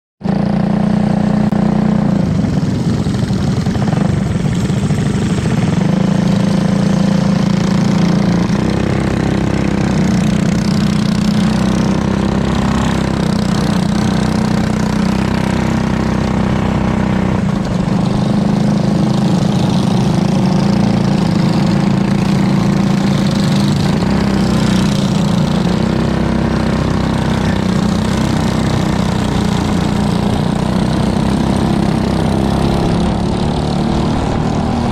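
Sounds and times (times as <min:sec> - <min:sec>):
kart engine running loud: 0:00.2 - 0:34.9.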